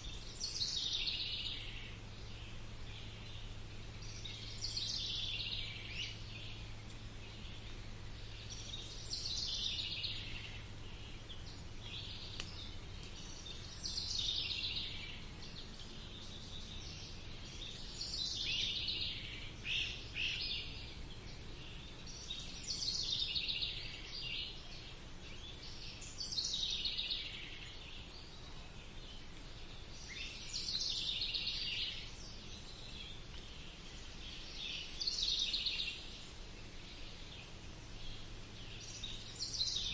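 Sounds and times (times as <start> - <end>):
low background noise: 0.0 - 39.9
songbird singing: 0.0 - 39.9.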